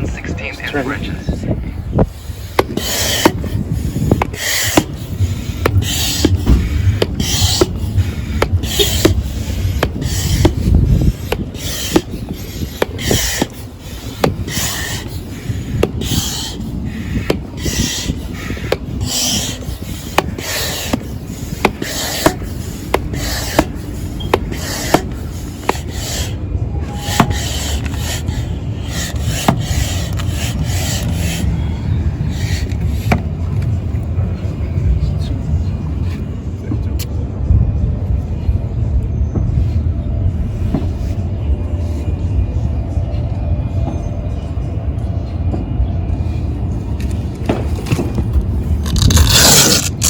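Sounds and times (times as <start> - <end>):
rush of air: 1.2 - 43.5.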